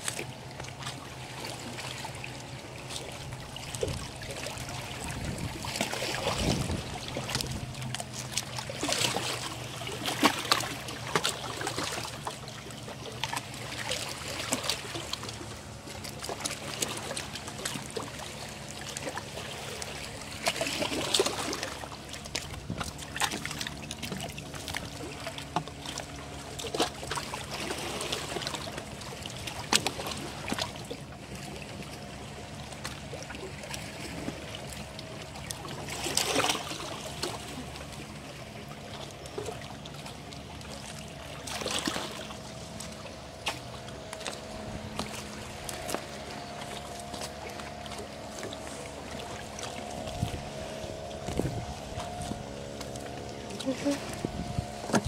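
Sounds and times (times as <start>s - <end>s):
waves lapping among rocks: 0.0s - 55.0s.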